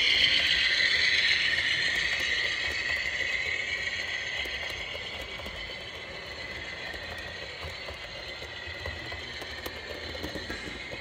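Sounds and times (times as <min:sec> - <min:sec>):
model train rolling whir: 0:00.0 - 0:11.0
wheels clicking over rail joints: 0:00.0 - 0:11.0.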